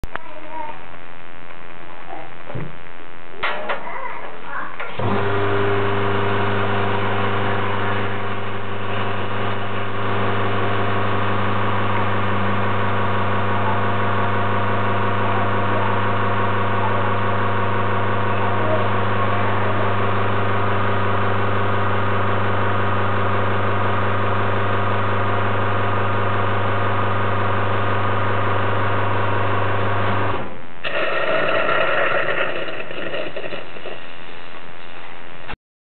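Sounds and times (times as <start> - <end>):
espresso machine pump humming: 5.0 - 34.5.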